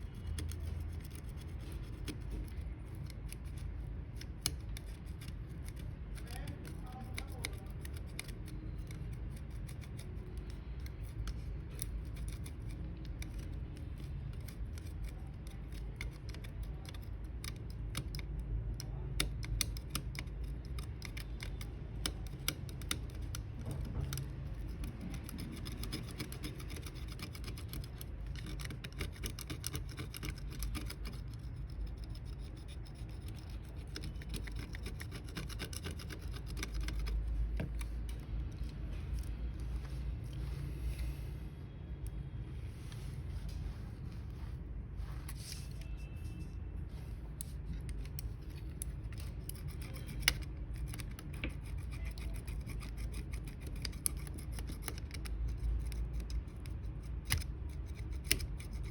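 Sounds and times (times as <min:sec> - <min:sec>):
small parts clicking and scraping: 0:00.0 - 0:41.2, 0:45.3 - 0:58.9.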